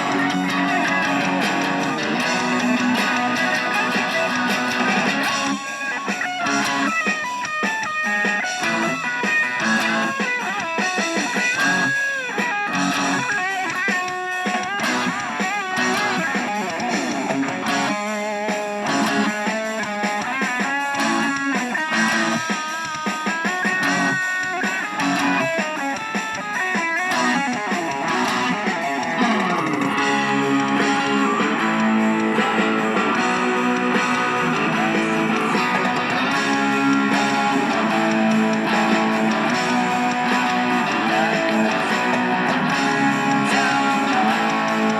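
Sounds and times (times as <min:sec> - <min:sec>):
bass guitar: 0:00.0 - 0:07.0, 0:08.3 - 0:10.2, 0:11.4 - 0:12.0, 0:12.6 - 0:13.4, 0:14.5 - 0:18.1, 0:18.8 - 0:19.5, 0:20.9 - 0:22.5, 0:23.6 - 0:25.6, 0:27.0 - 0:44.9
lead guitar melody: 0:00.0 - 0:44.9
strummed guitar: 0:00.0 - 0:44.9.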